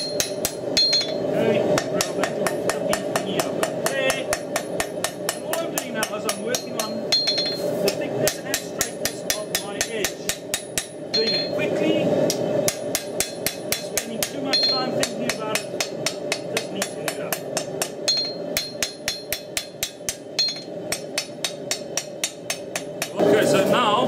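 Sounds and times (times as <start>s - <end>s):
hammer striking metal on anvil: 0.0s - 23.2s.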